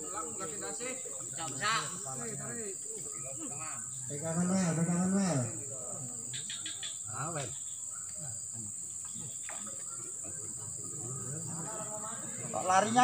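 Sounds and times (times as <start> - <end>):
insects droning: 0.0 - 13.0
men's voices: 0.0 - 13.0.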